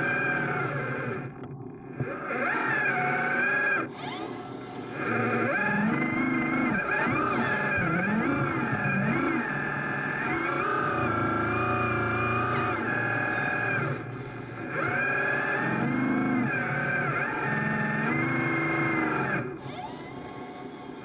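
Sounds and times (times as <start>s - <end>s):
electric motors whining: 0.0s - 21.0s.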